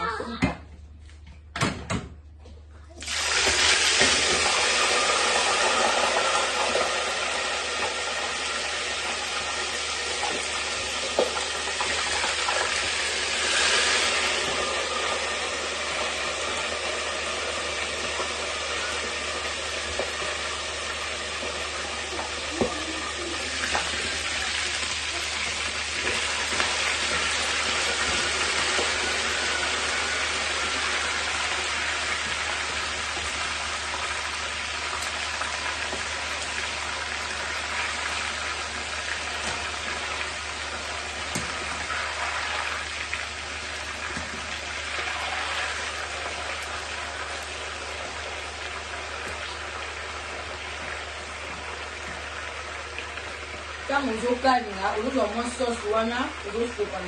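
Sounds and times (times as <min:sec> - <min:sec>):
chicken deep-frying in oil: 0:02.7 - 0:57.0.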